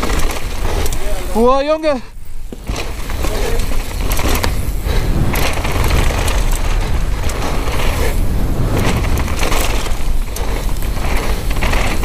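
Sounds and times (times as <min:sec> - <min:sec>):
bike knocks and rattles: 0:00.0 - 0:12.0
bike tyres on dirt: 0:00.0 - 0:12.0
wind buffeting microphone: 0:00.0 - 0:12.0.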